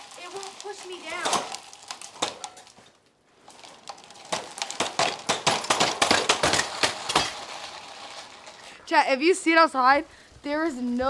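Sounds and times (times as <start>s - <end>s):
ice crust crunching underfoot: 0.0s - 11.0s.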